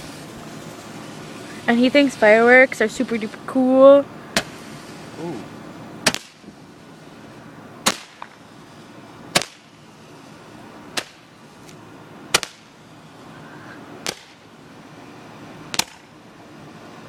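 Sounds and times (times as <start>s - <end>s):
fireworks popping: 0.0s - 5.4s, 6.0s - 13.2s, 14.0s - 14.6s, 15.6s - 16.2s.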